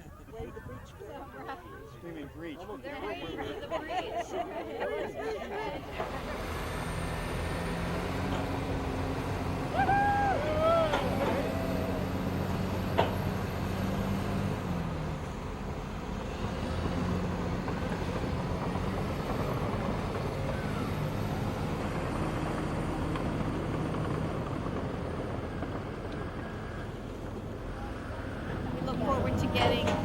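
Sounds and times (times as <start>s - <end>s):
diesel engine humming: 5.6s - 30.0s.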